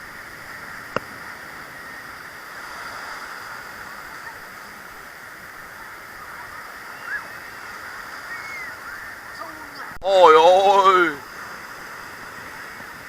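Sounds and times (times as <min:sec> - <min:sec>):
sea surf: 0:00.0 - 0:13.0.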